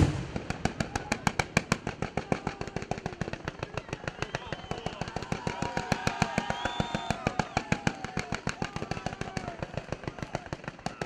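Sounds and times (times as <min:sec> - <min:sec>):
rapid firework explosions: 0:00.0 - 0:11.0.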